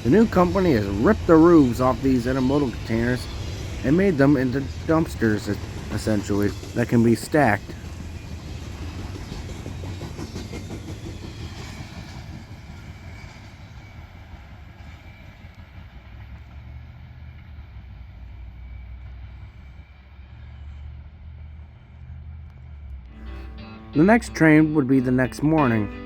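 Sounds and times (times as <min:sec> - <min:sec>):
freight train cars rolling past: 0:00.0 - 0:26.0.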